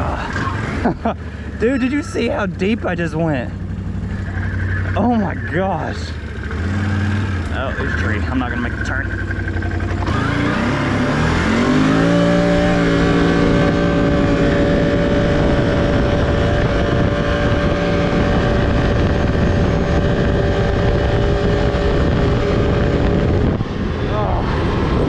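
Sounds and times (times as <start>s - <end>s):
four-wheeler engine at full throttle: 0.0s - 25.0s.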